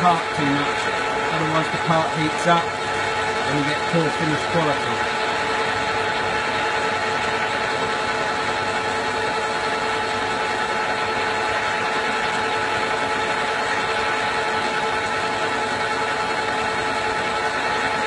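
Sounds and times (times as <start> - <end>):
metal lathe running: 0.0 - 18.0.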